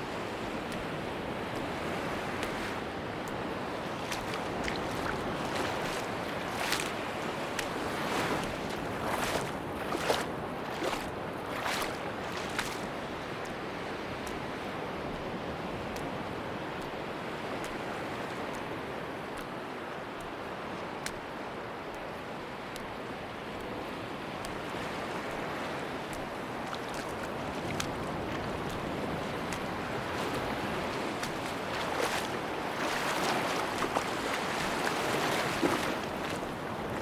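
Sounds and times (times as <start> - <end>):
sea surf washing onto beach: 0.0 - 37.0.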